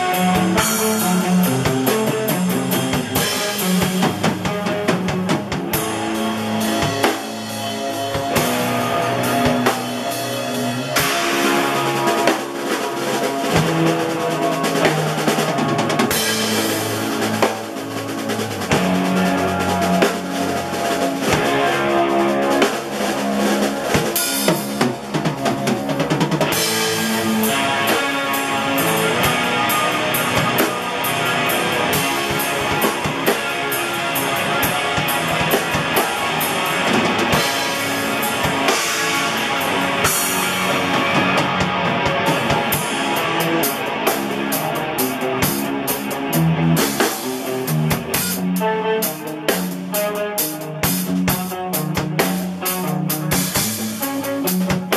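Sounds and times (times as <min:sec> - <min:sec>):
drum kit playing: 0:00.0 - 0:54.9
electric guitar: 0:00.0 - 0:54.9.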